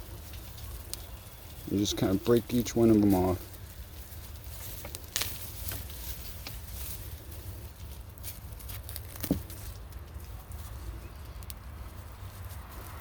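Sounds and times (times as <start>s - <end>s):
roots and soil crackling: 0.0s - 13.0s.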